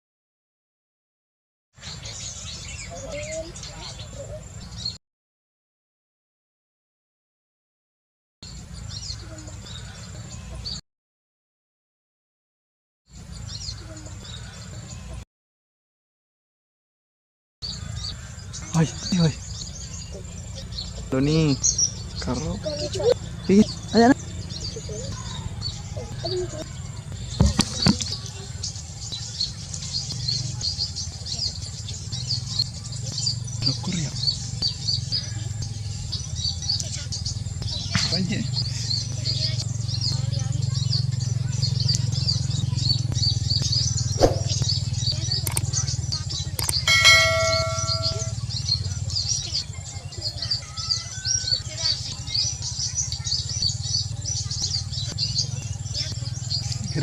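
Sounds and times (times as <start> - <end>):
small birds chirping: 1.8 - 5.0, 8.4 - 10.8, 13.1 - 15.2, 17.6 - 57.0.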